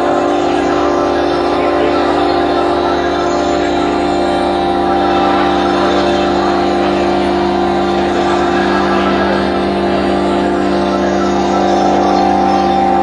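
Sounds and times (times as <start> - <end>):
held low drone tones: 0.0 - 13.0.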